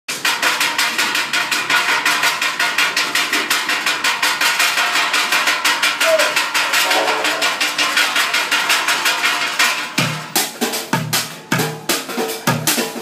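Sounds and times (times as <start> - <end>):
metal pots and pans drumming: 0.1 - 13.0.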